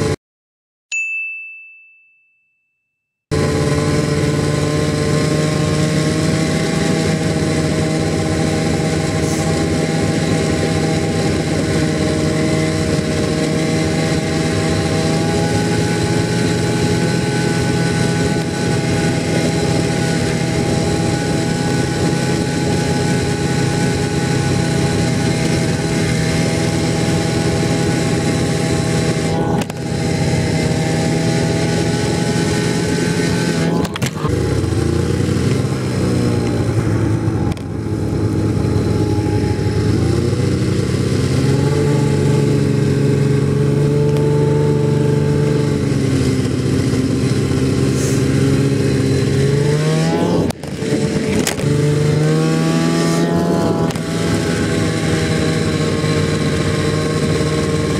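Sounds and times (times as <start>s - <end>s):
snowmobile engine running: 3.3s - 57.9s.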